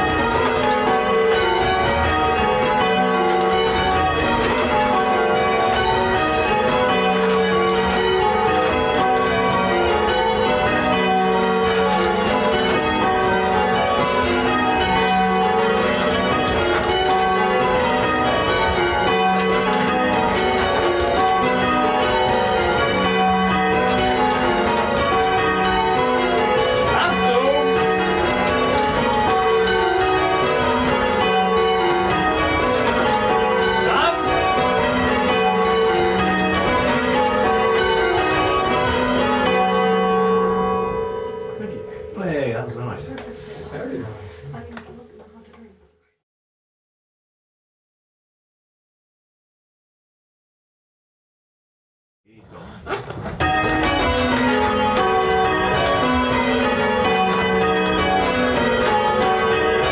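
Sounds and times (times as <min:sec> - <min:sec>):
church bells change ringing: 0:00.0 - 0:45.2, 0:53.2 - 0:59.9.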